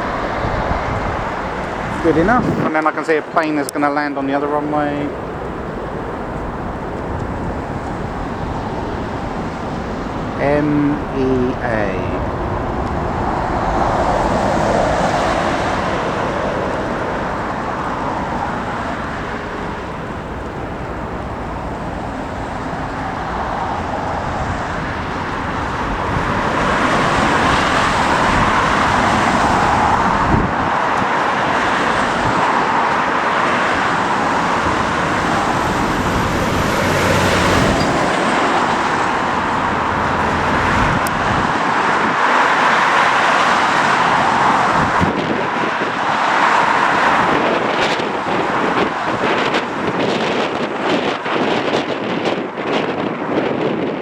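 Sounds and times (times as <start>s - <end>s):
wind rushing: 0.0s - 3.4s, 4.2s - 54.0s
distant traffic: 0.0s - 54.0s.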